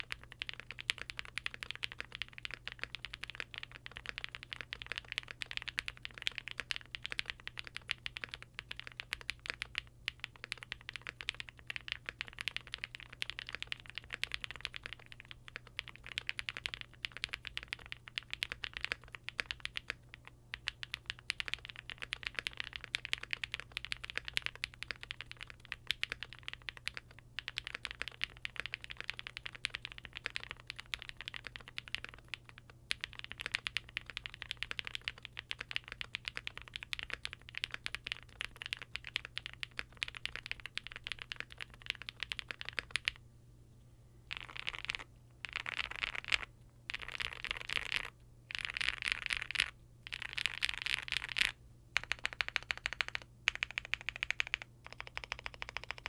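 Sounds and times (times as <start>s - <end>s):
mechanical keyboard typing: 0.0s - 43.2s, 44.3s - 56.0s.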